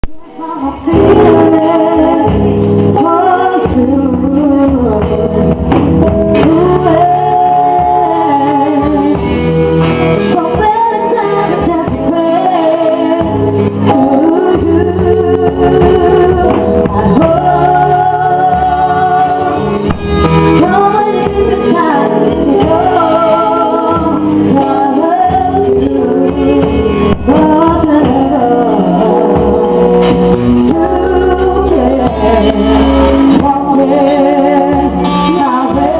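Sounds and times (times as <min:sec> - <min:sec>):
instrumental backing music: 0:00.0 - 0:35.9
woman singing: 0:00.1 - 0:35.9.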